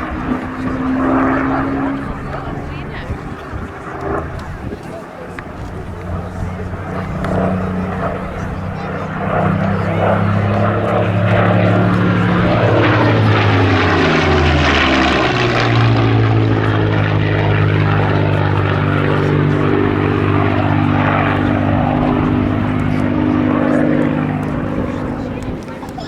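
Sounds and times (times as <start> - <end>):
propeller plane engine fly-by: 0.0 - 26.0.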